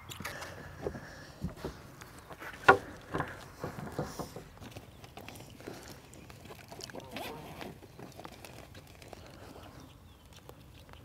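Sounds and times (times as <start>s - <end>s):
light clicks and knocks of tackle: 0.0s - 11.0s.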